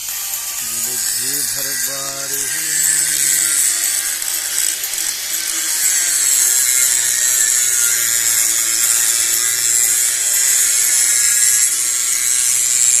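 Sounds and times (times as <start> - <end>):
metal grinding on grinding wheel: 0.0 - 13.0.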